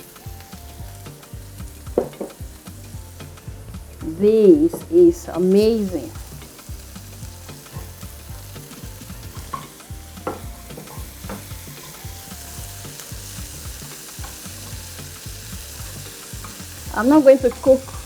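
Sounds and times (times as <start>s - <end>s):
spatula scraping and knocking pan: 0.0s - 18.0s
vegetables sizzling in a pan: 0.0s - 18.0s.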